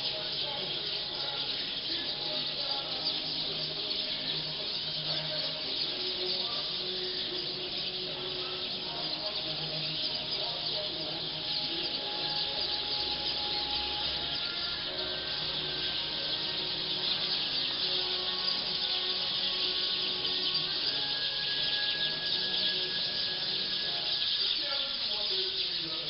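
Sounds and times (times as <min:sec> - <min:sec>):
flock of birds chirping: 0:00.0 - 0:26.0.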